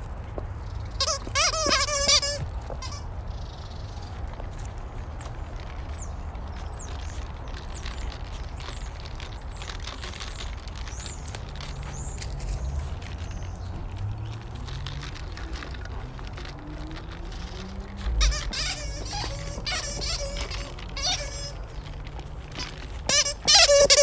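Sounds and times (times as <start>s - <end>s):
light footsteps: 0.0s - 24.0s
small birds chirping: 0.4s - 24.0s.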